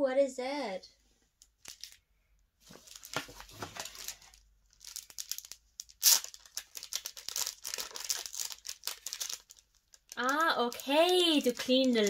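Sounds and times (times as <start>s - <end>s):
plastic sleeve crinkling and tearing: 1.4s - 2.0s, 2.6s - 12.0s.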